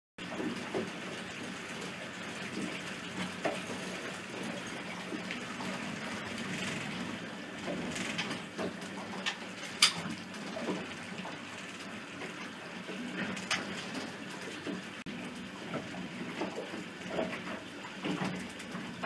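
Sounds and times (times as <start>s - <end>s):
boat motor hum: 0.2s - 19.0s
water sloshing against hull: 0.2s - 19.0s.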